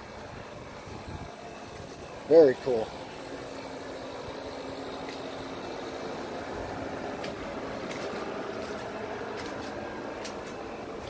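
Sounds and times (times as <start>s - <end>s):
faint steady hum: 0.0s - 11.0s
vehicle low rumble: 0.0s - 11.0s.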